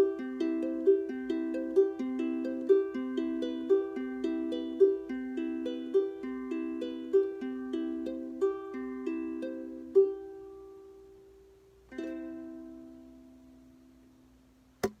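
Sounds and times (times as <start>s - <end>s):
acoustic plucked string instrument: 0.0s - 14.0s, 14.8s - 15.0s.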